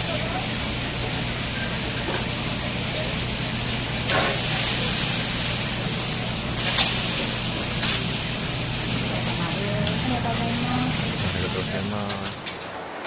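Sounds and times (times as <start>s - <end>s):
steady hiss: 0.0s - 12.7s.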